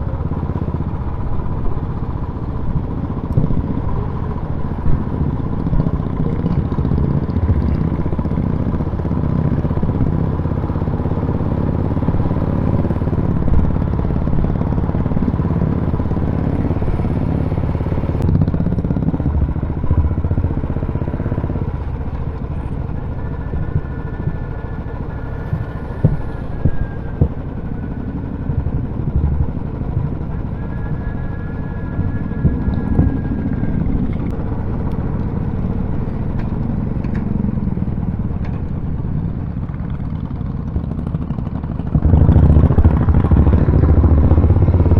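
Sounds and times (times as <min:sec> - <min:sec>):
motorcycle engines rumbling: 0:00.0 - 0:44.9.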